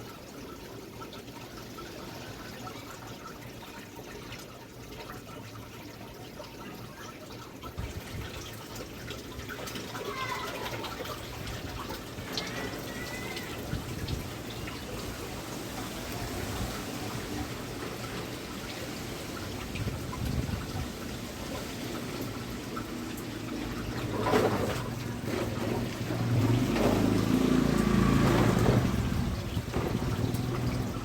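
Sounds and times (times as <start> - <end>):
rain: 0.0 - 31.0
wind: 0.0 - 31.0.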